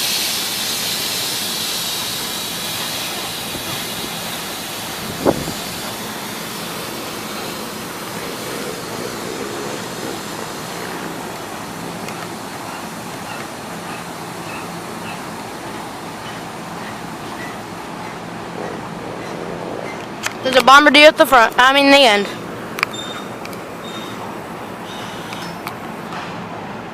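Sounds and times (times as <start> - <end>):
train air hiss: 0.0 - 20.2, 22.1 - 26.5
train running noise: 0.0 - 26.9.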